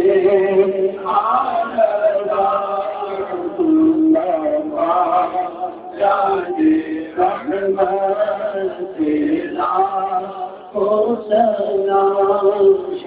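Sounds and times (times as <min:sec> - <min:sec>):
man singing a chant: 0:00.0 - 0:13.0.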